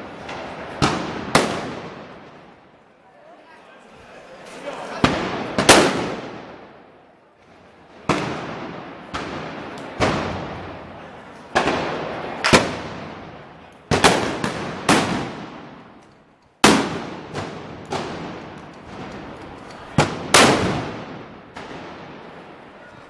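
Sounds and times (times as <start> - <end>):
gunpowder blasts echoing: 0.0 - 2.6, 5.0 - 6.9, 7.8 - 23.0.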